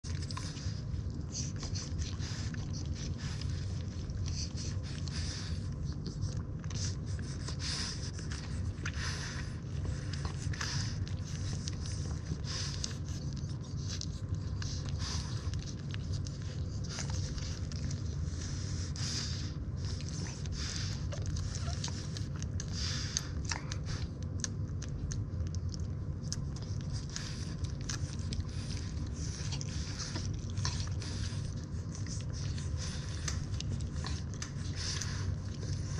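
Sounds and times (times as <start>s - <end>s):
puppies suckling wet smacking: 0.0s - 35.9s
steady low hum: 0.0s - 35.9s.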